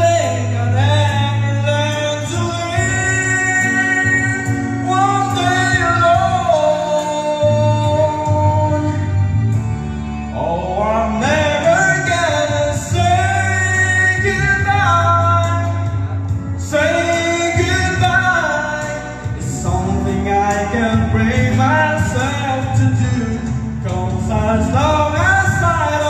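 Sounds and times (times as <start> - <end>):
man singing into a microphone: 0.0 - 9.7, 10.3 - 26.0
backing music: 0.0 - 26.0.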